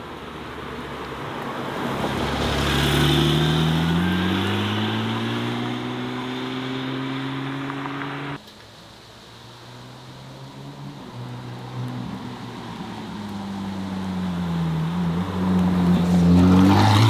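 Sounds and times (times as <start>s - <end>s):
car engine accelerating past: 1.7s - 8.4s, 9.8s - 17.0s.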